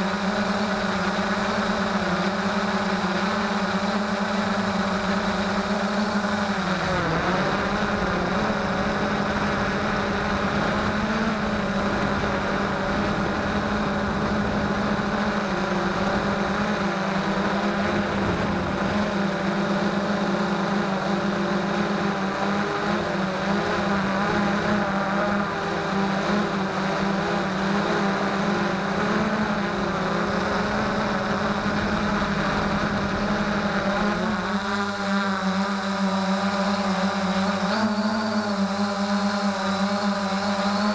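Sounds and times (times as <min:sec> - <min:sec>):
quadcopter propellers buzzing: 0:00.0 - 0:40.9.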